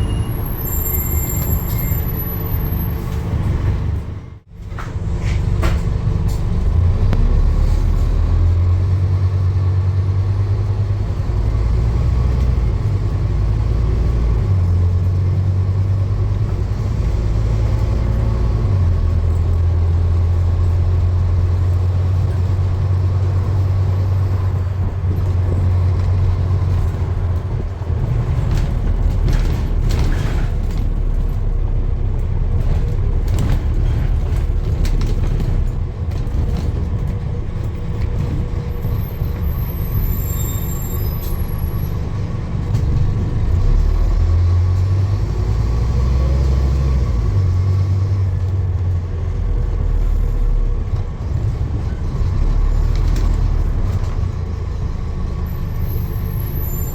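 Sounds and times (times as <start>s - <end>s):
vehicle rumbling: 0.0s - 56.9s.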